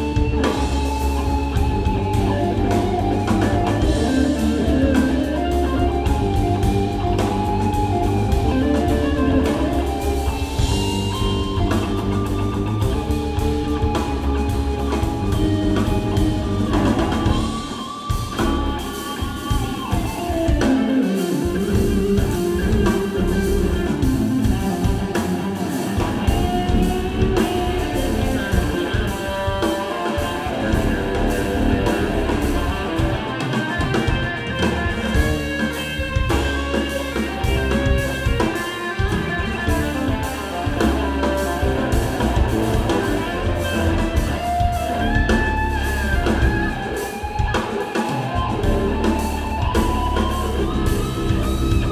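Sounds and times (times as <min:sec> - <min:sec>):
electric bass: 0:00.0 - 0:47.6, 0:48.3 - 0:51.9
drum kit: 0:00.0 - 0:51.9
electric guitar: 0:00.0 - 0:51.9.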